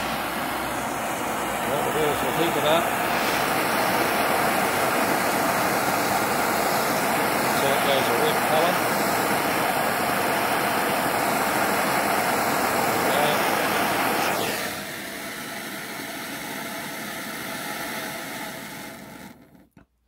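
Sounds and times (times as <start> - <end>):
blowtorch flame hissing: 0.0 - 19.6.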